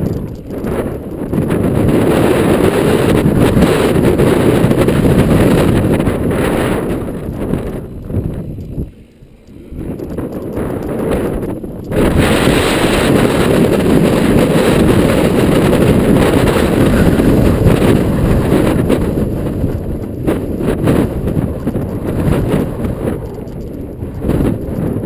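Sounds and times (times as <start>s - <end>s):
tyres rumbling on trail: 0.0s - 25.0s
wind buffeting microphone: 0.0s - 25.0s.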